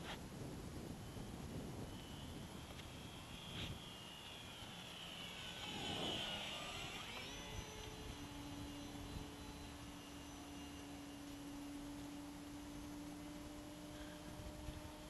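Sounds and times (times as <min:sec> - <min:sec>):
model plane motor whining past: 0:00.8 - 0:15.0.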